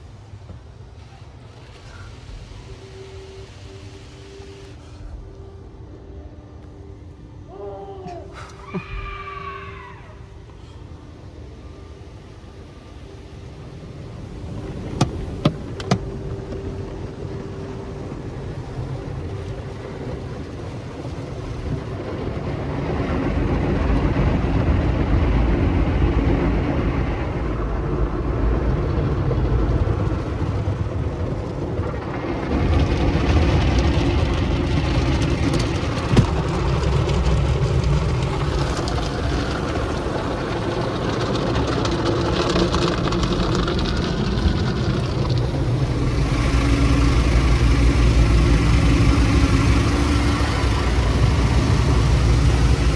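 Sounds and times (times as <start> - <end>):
car wash spraying water and machinery: 0.0 - 7.5, 8.2 - 9.4, 10.2 - 52.9.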